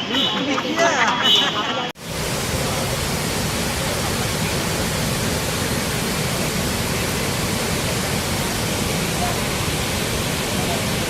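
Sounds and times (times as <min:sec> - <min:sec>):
waterfall rushing: 0:02.0 - 0:11.0.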